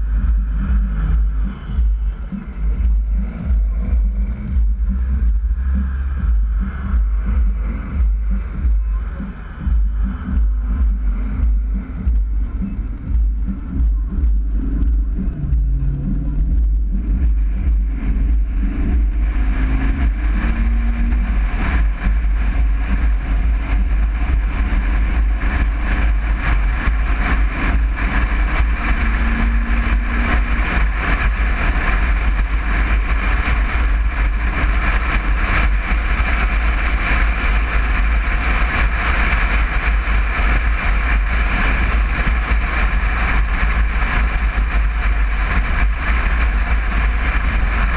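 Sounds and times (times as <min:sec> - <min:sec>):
road and wind noise: 0:00.0 - 0:47.9
vehicle engine rumble: 0:00.0 - 0:47.9.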